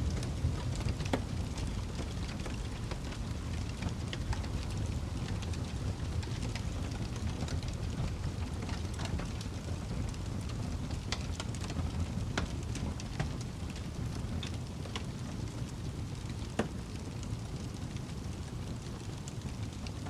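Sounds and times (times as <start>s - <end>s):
fire roaring gently: 0.0s - 20.0s
wood fire crackling and popping: 0.0s - 20.0s.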